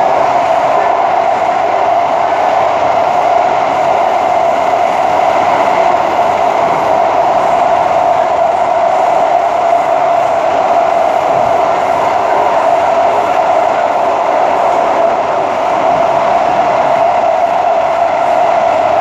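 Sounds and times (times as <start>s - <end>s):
metro train interior running noise: 0.0s - 19.0s.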